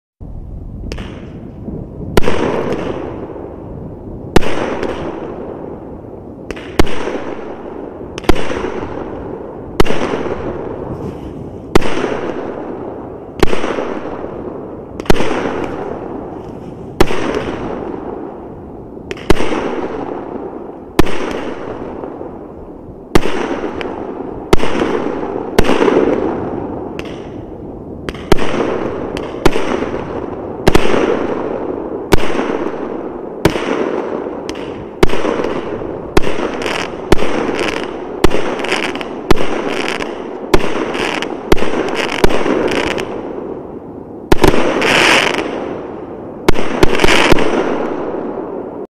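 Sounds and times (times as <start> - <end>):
firework bangs: 0.8 - 48.9.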